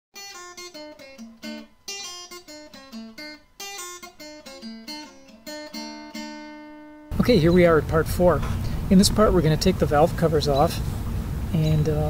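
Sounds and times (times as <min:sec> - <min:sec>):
acoustic guitar picking: 0:00.2 - 0:12.0.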